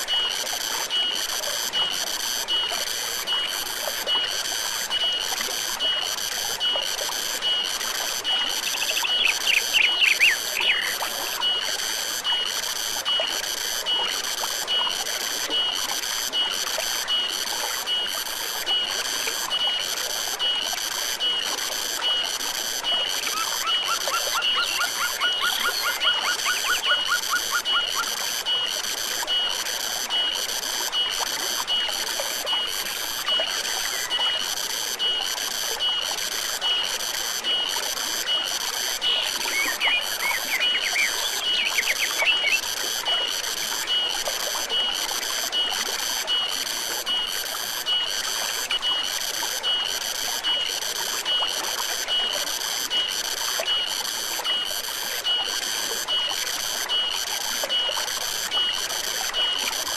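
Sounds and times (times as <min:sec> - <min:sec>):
forest stream running: 0:00.0 - 0:59.9
high-pitched insect chorus pulsing: 0:00.0 - 0:59.9.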